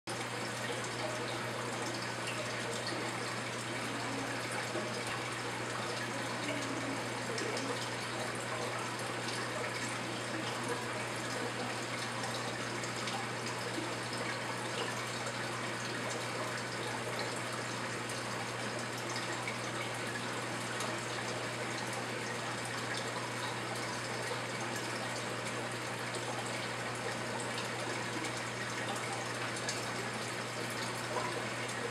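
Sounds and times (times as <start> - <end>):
aquarium water rushing: 0.1 - 31.9.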